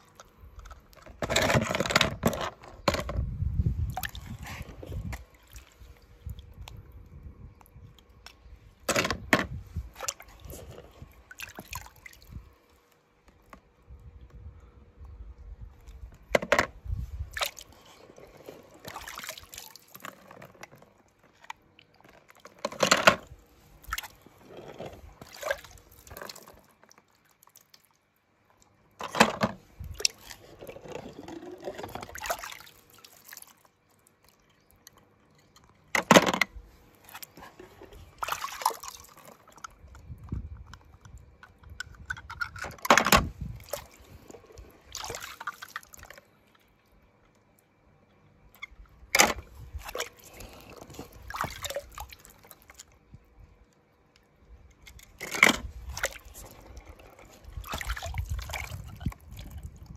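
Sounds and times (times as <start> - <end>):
water splashing and sloshing: 0.0 - 59.9.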